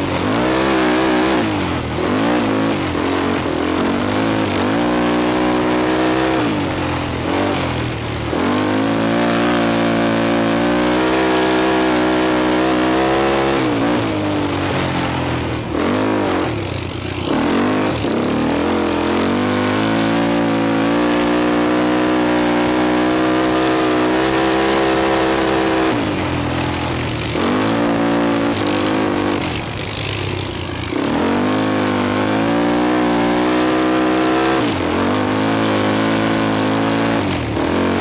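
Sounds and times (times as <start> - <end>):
atv engine revving: 0.0 - 38.0.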